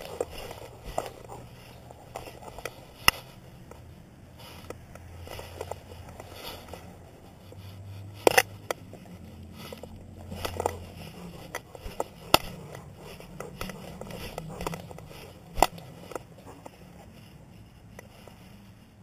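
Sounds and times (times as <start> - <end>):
camera rubbing noise: 0.0 - 19.0.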